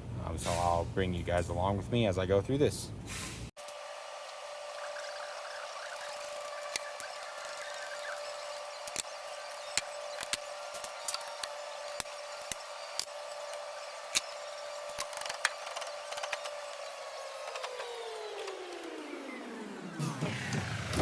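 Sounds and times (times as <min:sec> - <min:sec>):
motor humming: 0:03.6 - 0:21.0.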